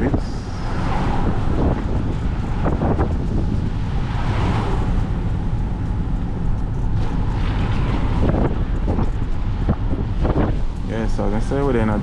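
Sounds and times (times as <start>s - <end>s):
car road rumble: 0.0s - 12.0s
wind buffeting microphone: 0.0s - 12.0s.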